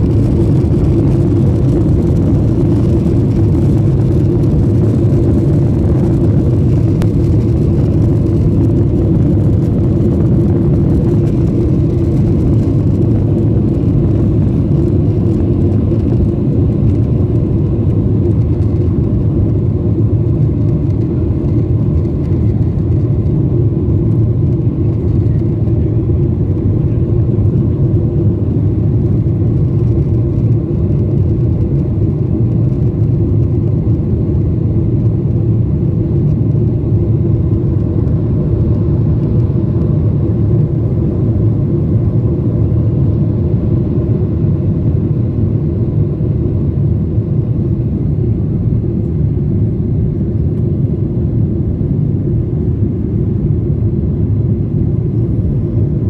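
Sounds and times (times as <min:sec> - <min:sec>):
jet engines deep rumble: 0:00.0 - 0:56.0.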